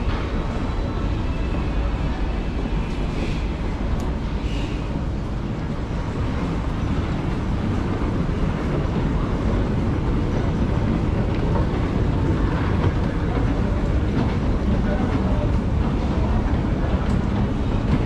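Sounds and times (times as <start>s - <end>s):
escalator mechanical rumble: 0.0s - 18.0s.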